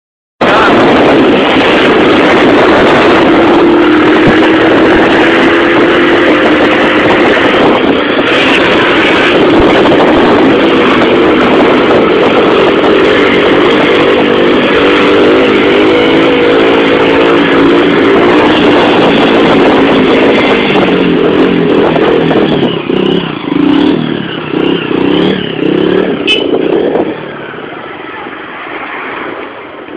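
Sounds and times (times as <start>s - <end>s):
wind rush on microphone: 0.4s - 29.9s
motorcycle engine running: 0.5s - 27.9s.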